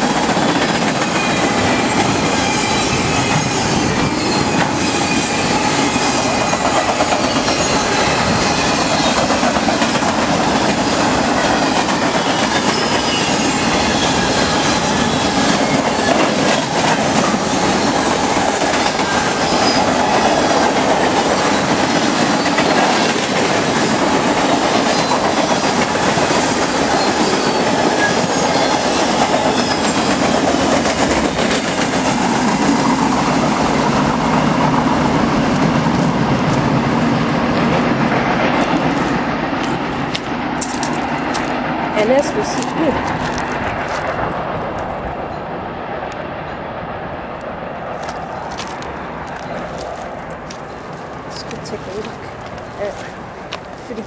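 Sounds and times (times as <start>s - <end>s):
wheels clattering on rail joints: 0.0s - 45.0s, 47.4s - 54.0s
train wheels rushing on rail: 0.0s - 54.0s.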